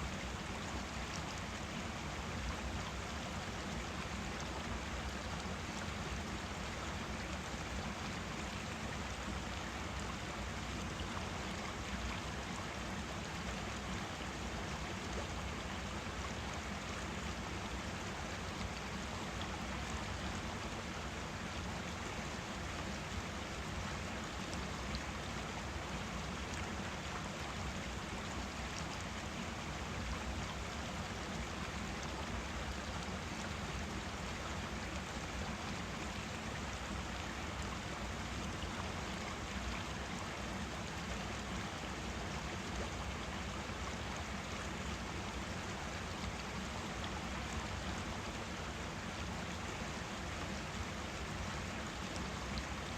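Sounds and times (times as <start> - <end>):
stream babbling over rocks: 0.0 - 52.9.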